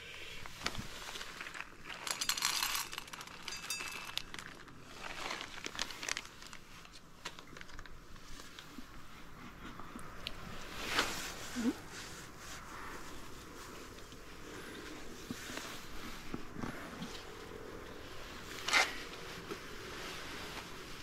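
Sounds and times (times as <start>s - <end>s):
rustling and crinkling handling: 0.4s - 21.0s.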